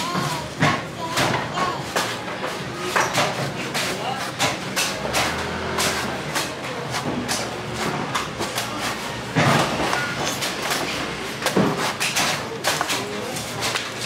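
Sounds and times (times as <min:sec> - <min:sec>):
blade chopping coconuts: 0:00.0 - 0:14.0
market hubbub: 0:00.0 - 0:14.0
scattered voices: 0:00.0 - 0:14.0.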